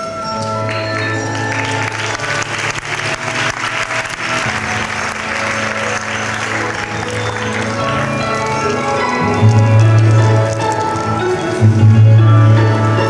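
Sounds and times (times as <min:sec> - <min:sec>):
audience applauding: 0:00.5 - 0:13.0.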